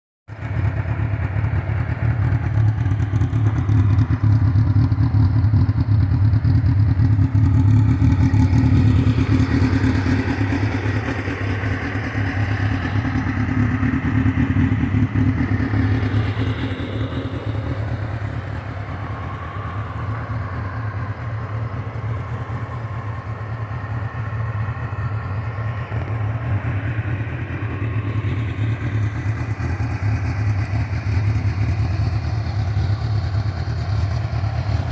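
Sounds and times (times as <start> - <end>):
motorcycle engine running: 0.3 - 34.9.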